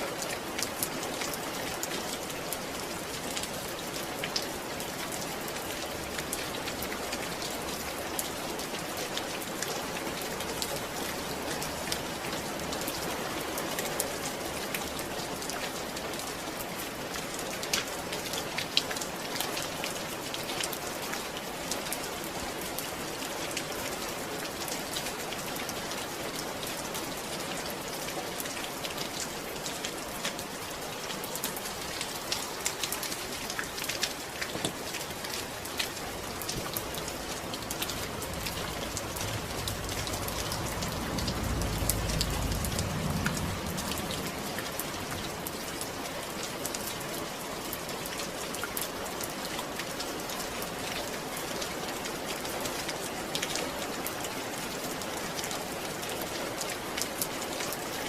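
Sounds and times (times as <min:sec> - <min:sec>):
rain drops pattering: 0:00.0 - 0:58.0.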